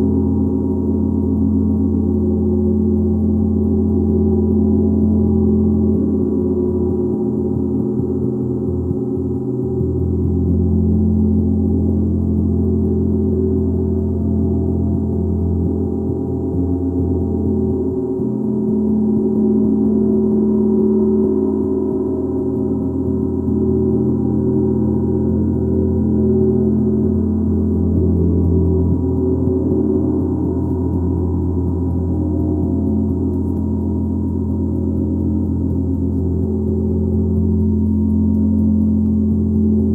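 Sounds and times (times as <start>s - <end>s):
gong droning: 0.0s - 39.9s.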